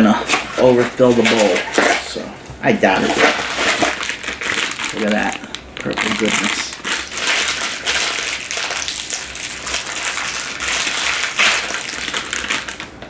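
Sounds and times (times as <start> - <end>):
plastic bag crinkling: 0.3 - 2.2, 2.8 - 13.0.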